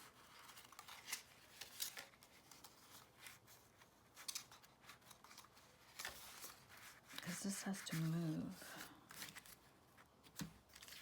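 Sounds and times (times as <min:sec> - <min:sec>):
paper rustles and taps: 0:00.3 - 0:08.1, 0:09.1 - 0:11.0.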